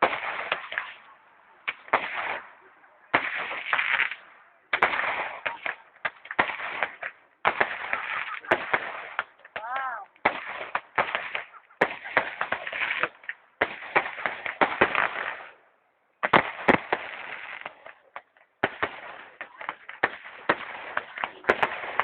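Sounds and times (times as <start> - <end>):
fireworks crackling bangs: 0.0 - 22.0.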